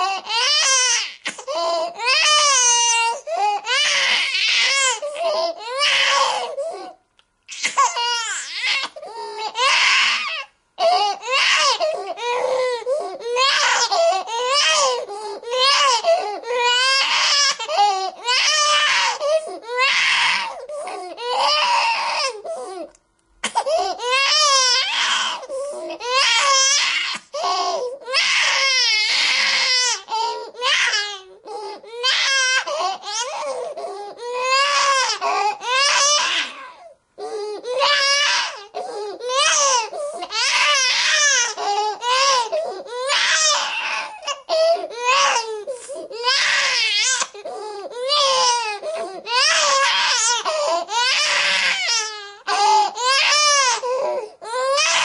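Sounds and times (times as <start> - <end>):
newborn baby crying: 0.0 - 55.0.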